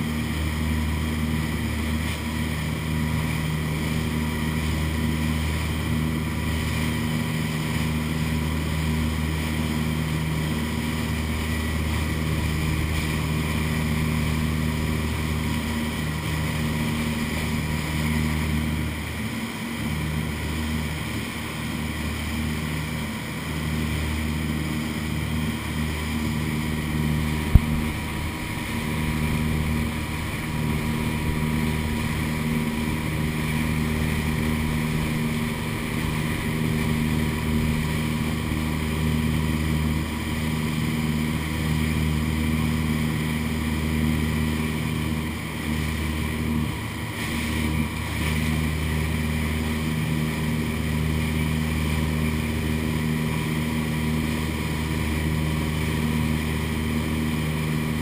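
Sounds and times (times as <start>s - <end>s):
motorboat engine running: 0.0s - 58.0s
rush of air and water: 0.0s - 58.0s.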